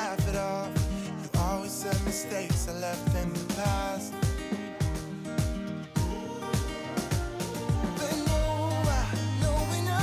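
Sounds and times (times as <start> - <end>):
deep pitch-dropping drum beat: 0.2 - 10.0.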